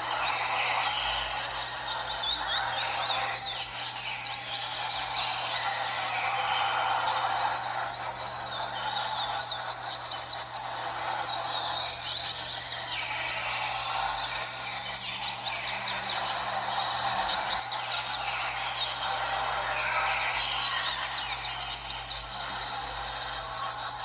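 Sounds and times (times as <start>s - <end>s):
birds chirping and trilling: 0.0s - 24.0s
steady background noise: 0.0s - 24.0s.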